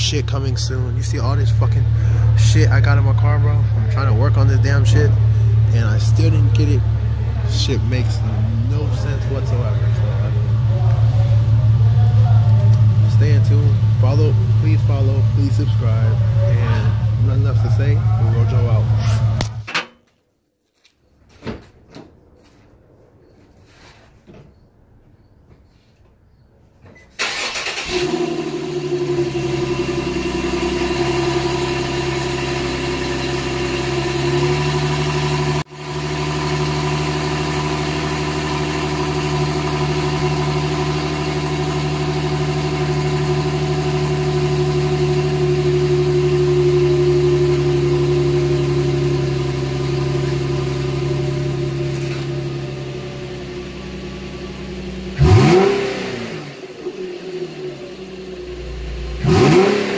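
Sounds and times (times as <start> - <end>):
car engine idling: 0.0 - 19.6, 27.2 - 59.9.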